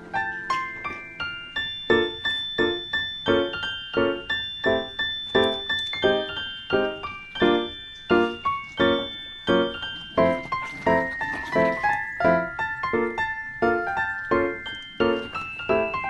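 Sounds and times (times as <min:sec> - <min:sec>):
light piano tune: 0:00.0 - 0:16.0.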